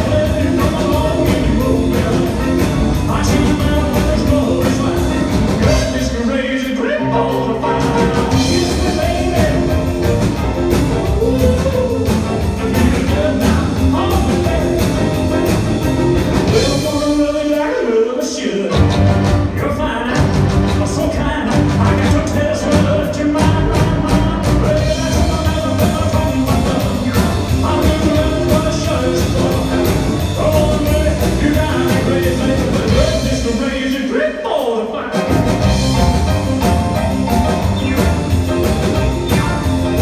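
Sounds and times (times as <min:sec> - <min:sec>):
drums: 0:00.0 - 0:40.0
live rock and roll band: 0:00.0 - 0:40.0
piano: 0:00.0 - 0:40.0.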